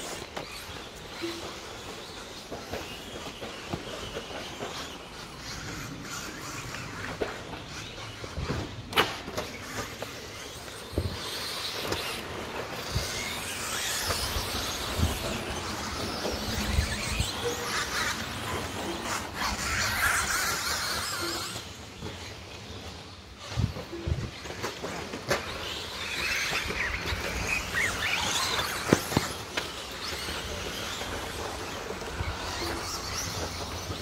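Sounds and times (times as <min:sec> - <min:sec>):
rc trucks motor whine: 0:00.0 - 0:34.0.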